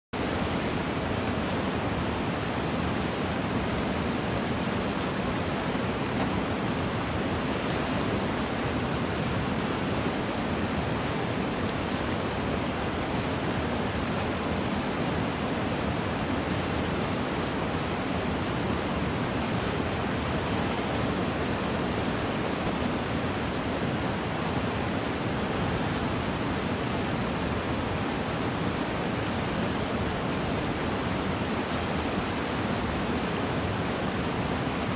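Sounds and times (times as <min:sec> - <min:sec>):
stream water rushing: 0:00.2 - 0:34.9.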